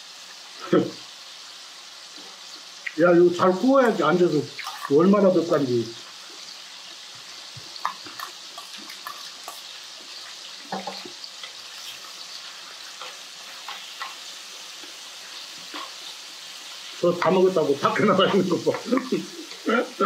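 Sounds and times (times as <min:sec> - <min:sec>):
duck sizzling in a frying pan: 0:00.0 - 0:20.0.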